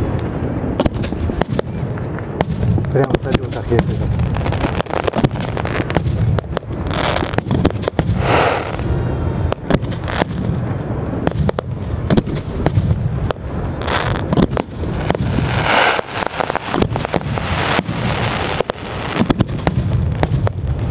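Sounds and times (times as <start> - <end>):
fireworks bursting with sharp bangs: 0.0 - 20.9
fireworks crackling: 0.0 - 20.9.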